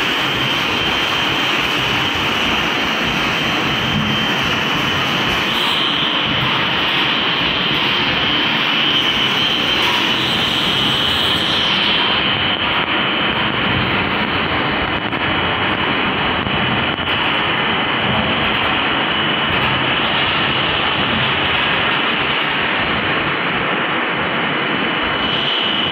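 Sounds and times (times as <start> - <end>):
constant high whine: 0.0 - 25.9
lathe machinery running: 0.0 - 25.9.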